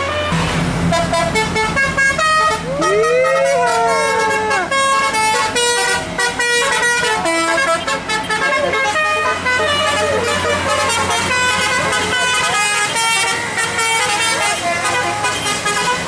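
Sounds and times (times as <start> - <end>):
bus engine running: 0.0 - 16.0
musical air horn melody: 0.0 - 16.0.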